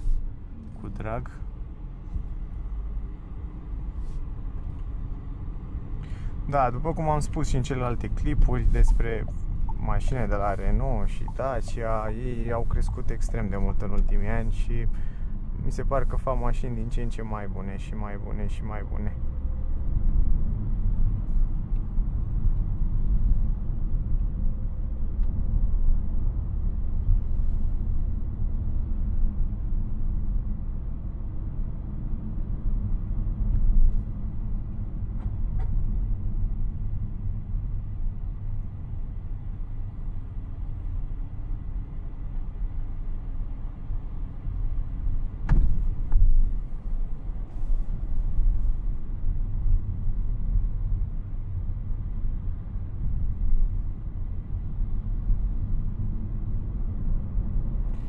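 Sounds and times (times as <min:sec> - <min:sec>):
vehicle rumble inside car: 0:00.0 - 0:58.0.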